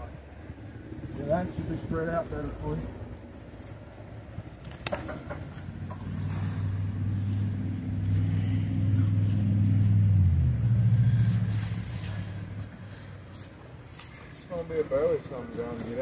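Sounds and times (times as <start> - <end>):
vehicle engine passing by: 0.0 - 13.5.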